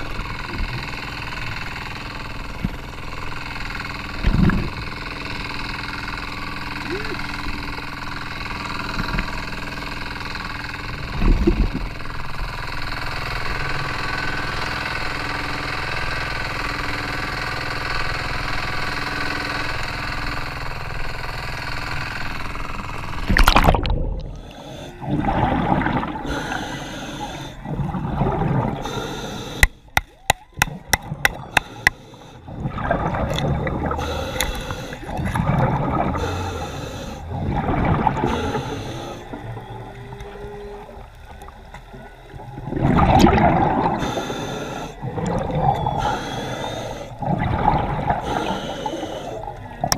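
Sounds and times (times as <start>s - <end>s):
water bubbling and sloshing: 0.0s - 16.0s, 20.6s - 49.9s
motor running: 0.0s - 49.9s.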